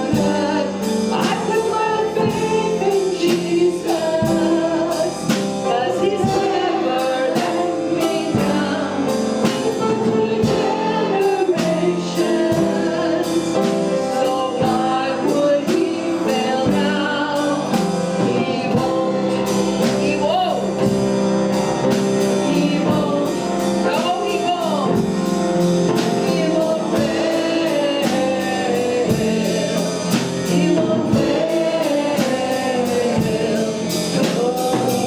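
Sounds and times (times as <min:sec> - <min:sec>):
band with steady drum beat: 0:00.0 - 0:35.0
voices singing gospel song: 0:00.0 - 0:35.0.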